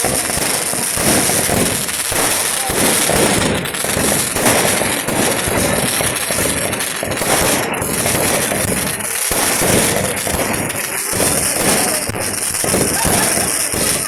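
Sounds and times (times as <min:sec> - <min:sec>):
fireworks and firecrackers: 0:00.0 - 0:14.0.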